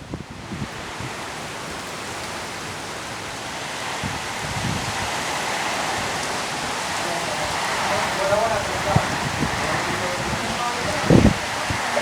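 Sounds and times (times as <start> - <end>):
rain falling: 0.0 - 12.0
wind gusts on microphone: 0.0 - 12.0.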